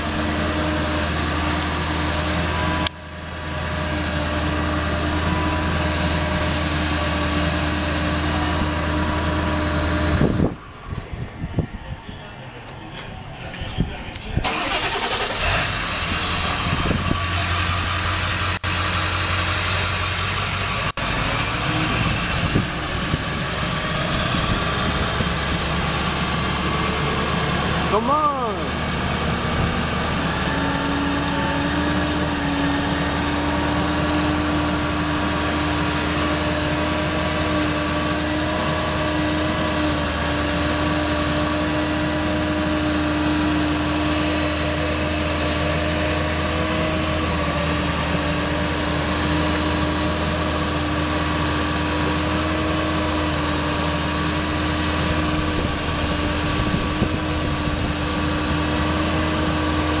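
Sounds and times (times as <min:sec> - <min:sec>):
diesel engine idling: 0:00.0 - 1:00.0.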